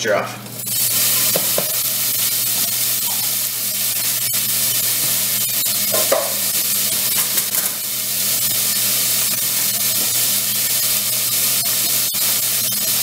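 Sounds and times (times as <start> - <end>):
vegetables sizzling in oil: 0.4 - 13.0.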